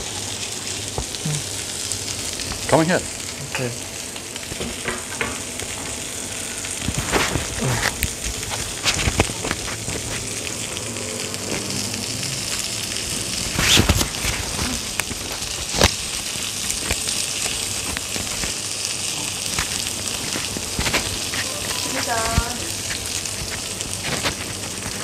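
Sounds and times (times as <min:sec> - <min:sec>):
steak sizzling on grill pan: 0:00.0 - 0:25.0.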